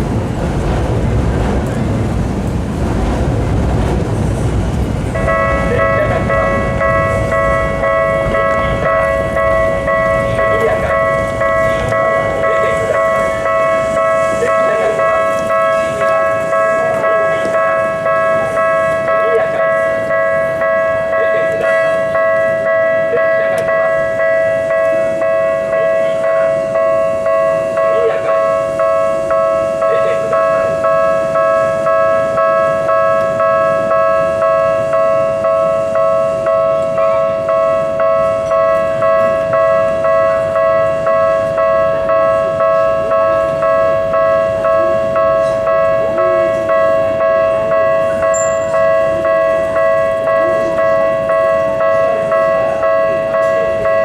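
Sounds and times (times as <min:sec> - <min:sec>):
level crossing bell dinging: 0:05.2 - 0:54.0.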